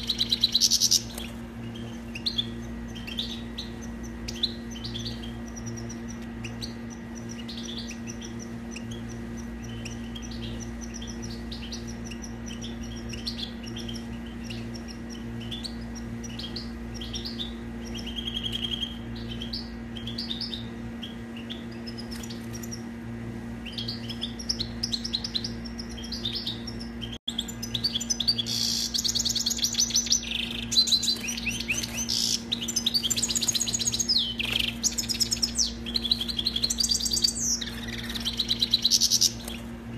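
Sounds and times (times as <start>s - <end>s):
finch twittering song: 0.0s - 39.9s
steady low hum: 0.0s - 39.9s.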